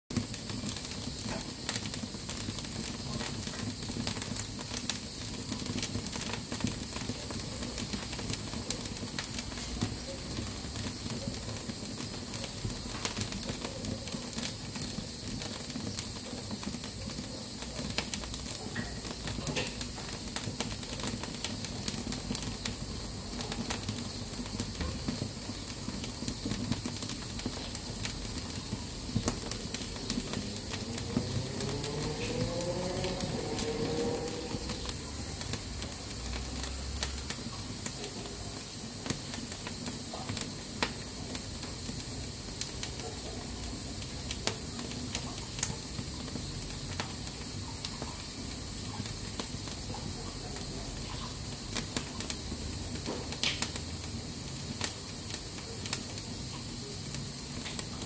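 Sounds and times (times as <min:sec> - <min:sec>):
pressure cooker hissing steam: 0:00.1 - 0:58.0
wood fire crackling: 0:00.1 - 0:58.0.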